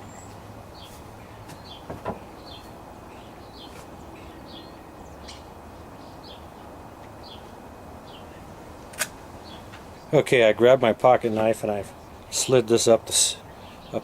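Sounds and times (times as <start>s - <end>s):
small birds chirping: 0.0s - 8.6s, 9.2s - 14.0s
low background noise: 0.0s - 14.0s.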